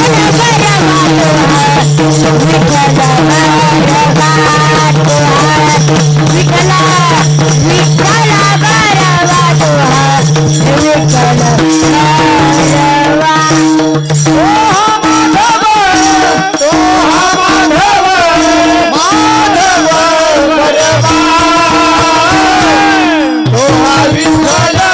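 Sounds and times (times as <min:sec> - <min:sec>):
jingling percussion: 0:00.0 - 0:24.9.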